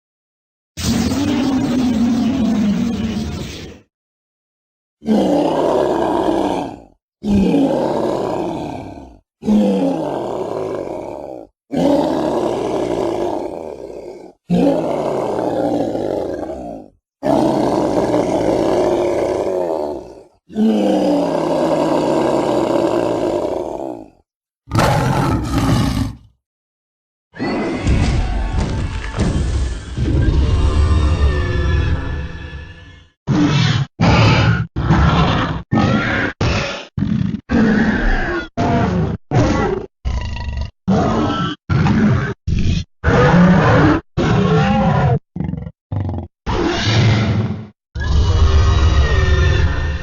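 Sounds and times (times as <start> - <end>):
dinosaur roars: 5.0 - 26.4, 30.0 - 50.0.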